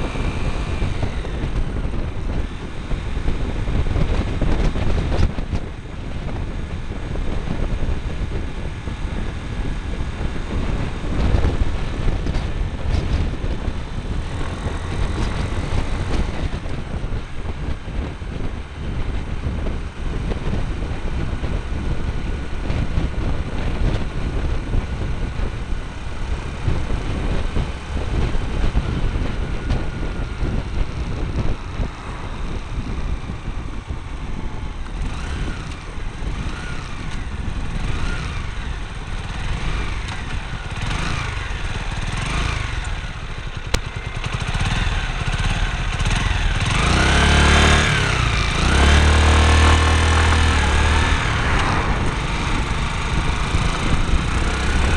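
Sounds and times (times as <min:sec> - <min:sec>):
motorcycle engine rumble: 0:00.0 - 0:54.9
road noise: 0:00.0 - 0:54.9.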